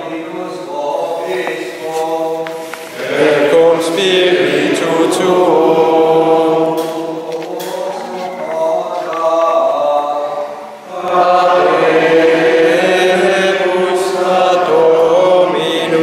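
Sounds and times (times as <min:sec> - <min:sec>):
choir singing plainchant: 0:00.0 - 0:16.0.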